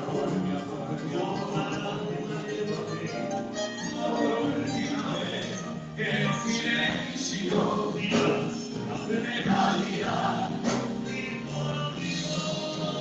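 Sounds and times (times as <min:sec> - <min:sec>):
song with singing and instruments: 0:00.0 - 0:13.0.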